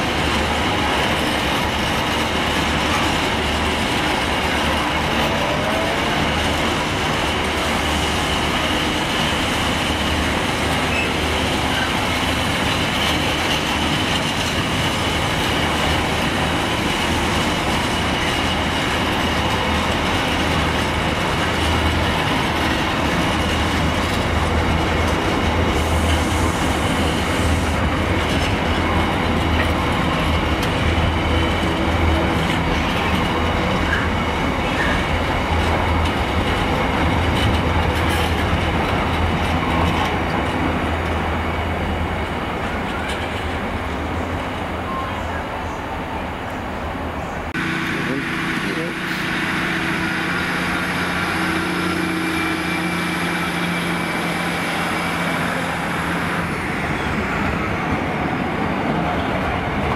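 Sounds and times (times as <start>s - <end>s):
freight train wagons rumbling: 0.0s - 59.9s.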